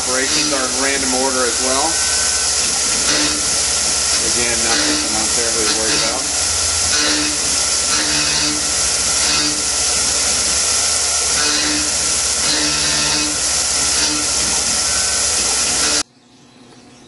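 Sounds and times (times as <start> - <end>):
coolant spray hiss: 0.0 - 16.0
mill cutting metal: 0.0 - 16.0
low machine hum: 0.0 - 17.0.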